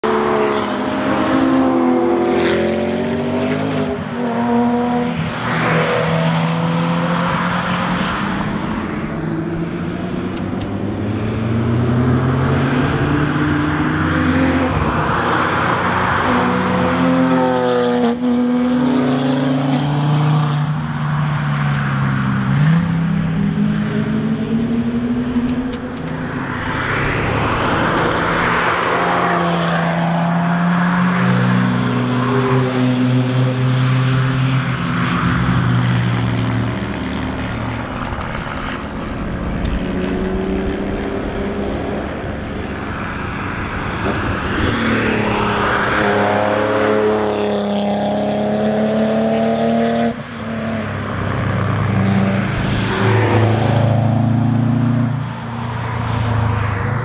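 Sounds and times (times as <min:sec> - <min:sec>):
race cars accelerating past: 0:00.0 - 0:57.0.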